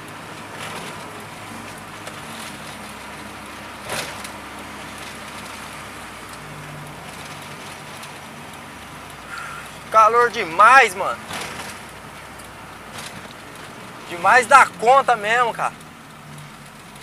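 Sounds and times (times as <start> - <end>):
car engine running inside cabin: 0.0 - 17.0.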